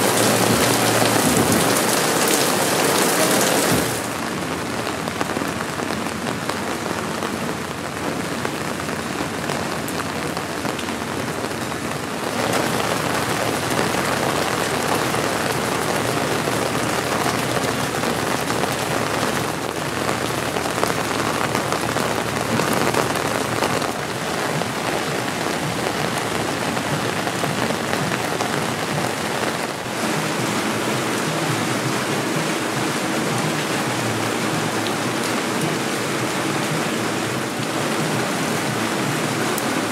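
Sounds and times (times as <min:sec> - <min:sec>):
rain splashing on paving and puddles: 0:00.0 - 0:39.9.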